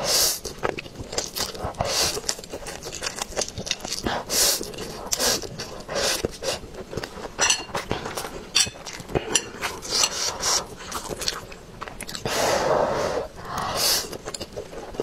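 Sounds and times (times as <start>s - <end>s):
wet chewing: 0.3s - 12.4s, 13.3s - 15.0s.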